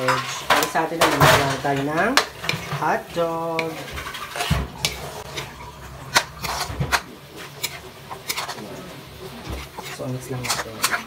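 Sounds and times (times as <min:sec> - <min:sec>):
spatula scraping a wok: 0:00.0 - 0:11.0.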